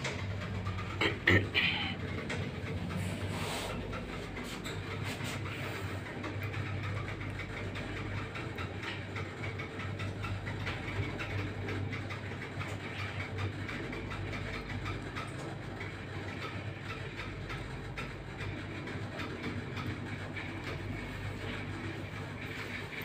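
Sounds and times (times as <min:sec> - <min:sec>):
elevator doors rattling and clicking: 0:00.0 - 0:23.0
elevator hum: 0:00.0 - 0:23.0.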